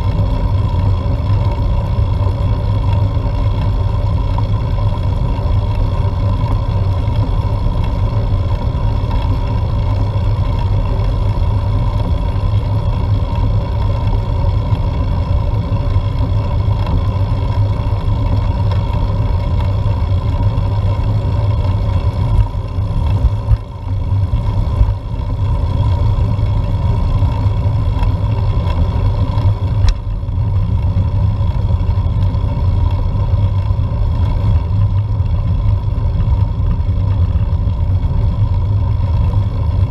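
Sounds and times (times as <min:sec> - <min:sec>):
rumble of wind and road vibration: 0:00.0 - 0:39.9.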